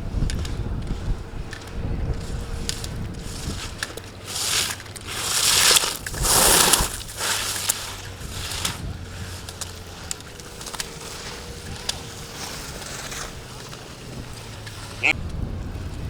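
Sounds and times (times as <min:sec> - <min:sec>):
skis scraping on hard snow: 0:00.1 - 0:15.2.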